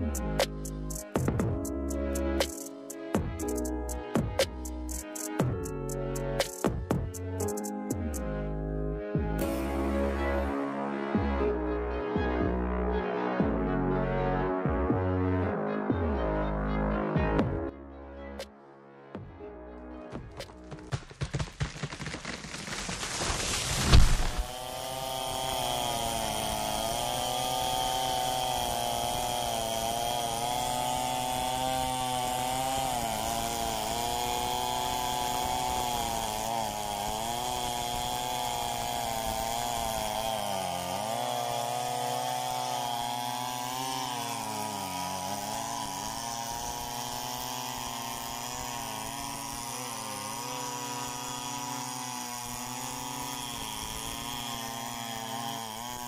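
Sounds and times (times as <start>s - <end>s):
chainsaw cutting a log: 0.0s - 8.5s, 9.4s - 11.4s, 20.2s - 56.0s.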